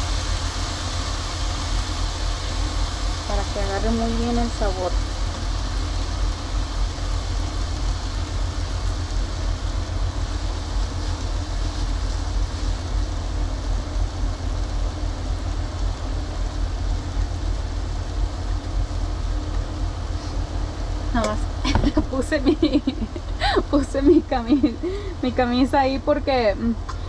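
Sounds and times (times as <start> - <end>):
chicken sizzling in a pan: 0.0 - 26.8.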